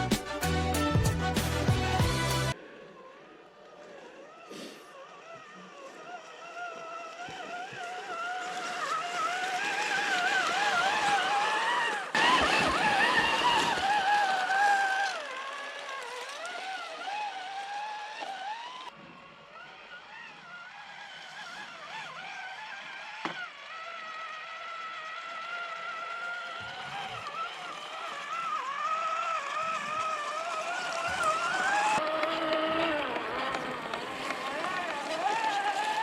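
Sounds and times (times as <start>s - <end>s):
electric motor whine: 0.0s - 36.0s.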